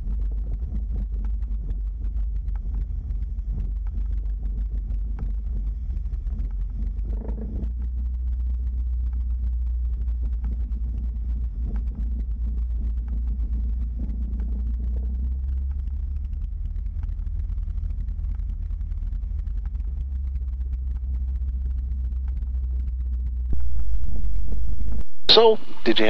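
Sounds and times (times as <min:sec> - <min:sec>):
light aircraft engine rumble: 0:00.0 - 0:26.0.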